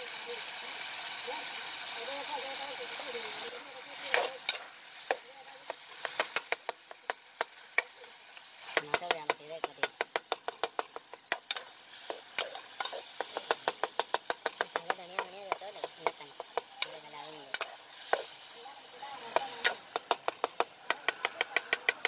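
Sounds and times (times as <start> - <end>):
masala sizzling: 0.0 - 22.0.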